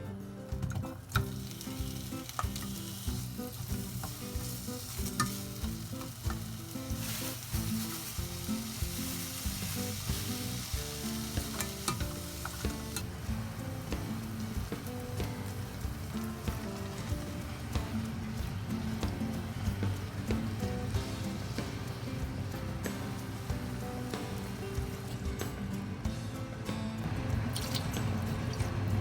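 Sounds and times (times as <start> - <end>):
utensil stirring and clicking on pan: 0.8 - 25.9
food sizzling in a pan: 1.0 - 26.3.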